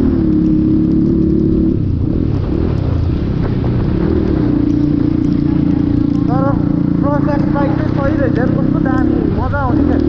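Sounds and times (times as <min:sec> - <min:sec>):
dirt bike engine drone: 0:00.0 - 0:10.0
low road rumble: 0:00.0 - 0:10.0.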